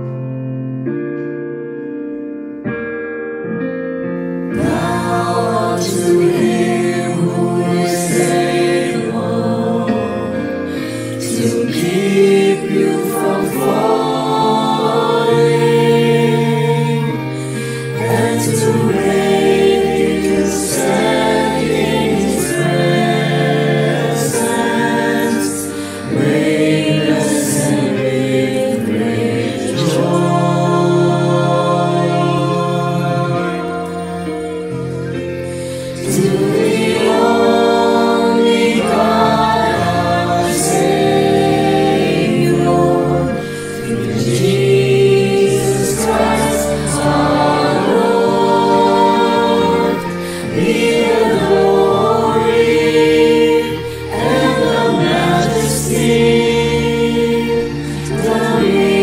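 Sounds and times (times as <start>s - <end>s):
keyboard playing: 0.0s - 59.0s
choir singing gospel song: 4.4s - 59.0s.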